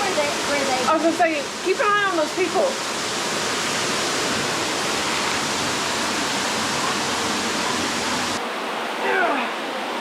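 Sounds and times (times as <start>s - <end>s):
waterfall rushing in a cave: 0.0s - 10.0s.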